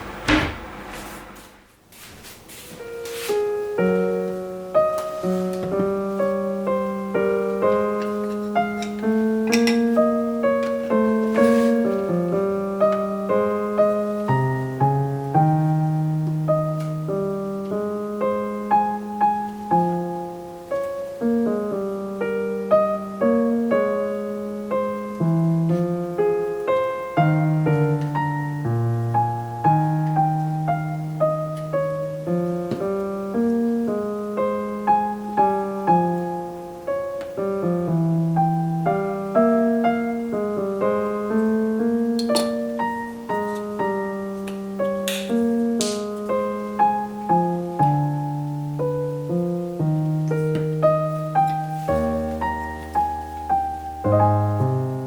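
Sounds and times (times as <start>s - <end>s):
solo piano music: 0.0s - 1.8s, 2.8s - 55.0s.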